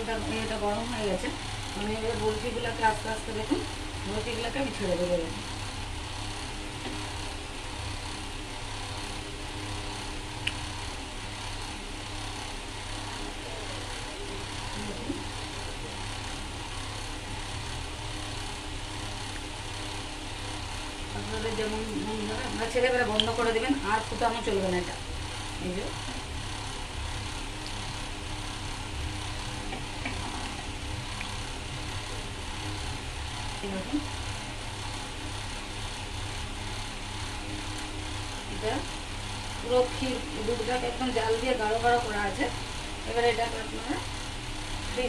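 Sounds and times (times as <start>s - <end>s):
low hum and hiss: 0.0s - 45.0s.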